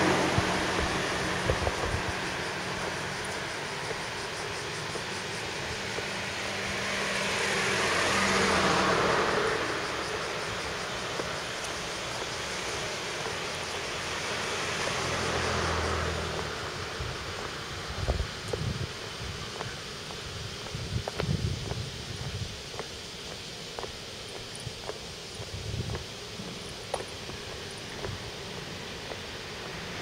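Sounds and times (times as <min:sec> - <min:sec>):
motor vehicles passing: 0:00.0 - 0:22.4, 0:23.0 - 0:30.0.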